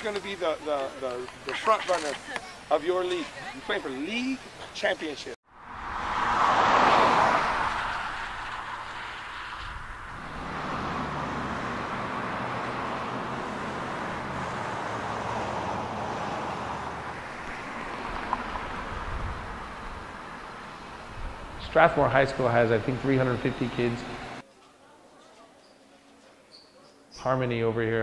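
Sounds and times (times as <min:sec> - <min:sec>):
cars passing: 0:00.0 - 0:24.4.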